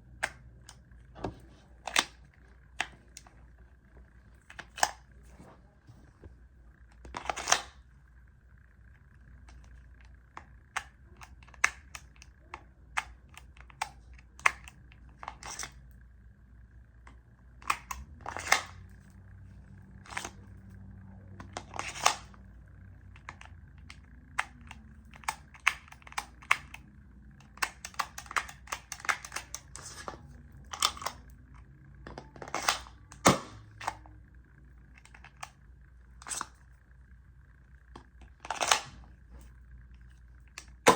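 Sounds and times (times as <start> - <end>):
faint high hum: 0.0 - 40.9.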